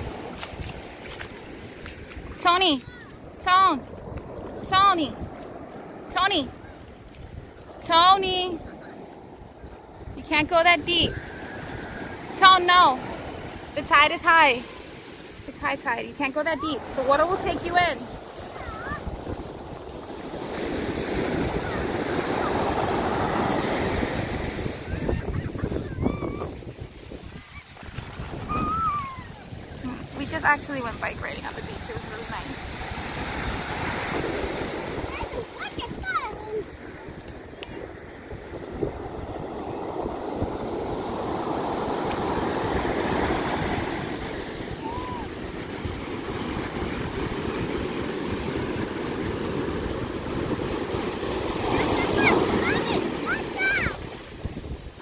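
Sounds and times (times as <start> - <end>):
ocean wave breaking on beach: 0.0 - 55.0
wind buffeting microphone: 0.0 - 55.0.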